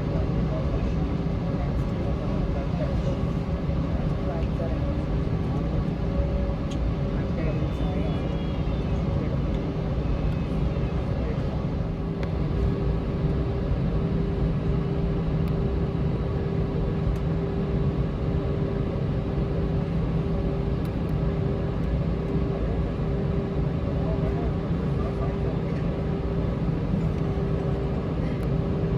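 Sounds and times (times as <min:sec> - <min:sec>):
airplane cabin rumble: 0:00.0 - 0:28.9.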